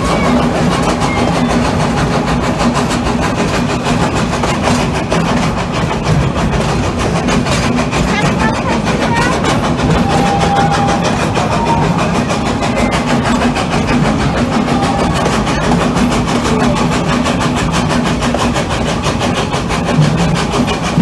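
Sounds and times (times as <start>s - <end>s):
train running on track: 0.0s - 21.0s.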